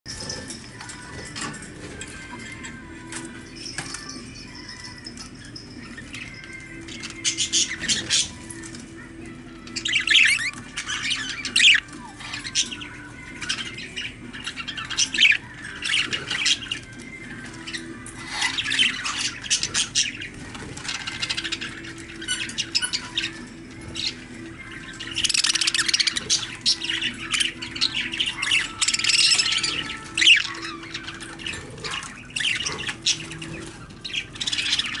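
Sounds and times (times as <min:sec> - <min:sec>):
budgerigars chirping and squawking: 0:00.1 - 0:35.0.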